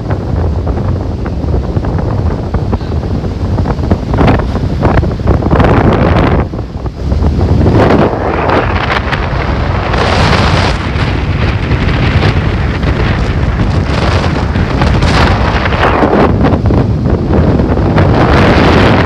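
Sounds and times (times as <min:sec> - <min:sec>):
rough sea waves breaking: 0:00.0 - 0:19.0
wind buffeting microphone: 0:00.0 - 0:19.0.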